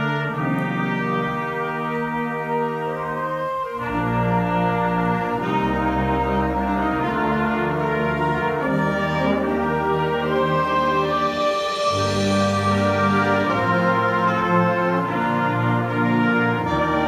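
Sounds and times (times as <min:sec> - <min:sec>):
concert band playing chords: 0:00.0 - 0:17.0.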